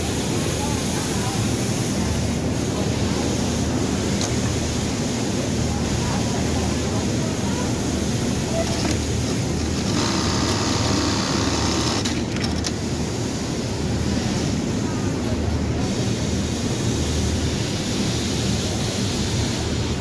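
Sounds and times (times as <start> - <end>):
machinery humming and hissing: 0.0 - 20.0.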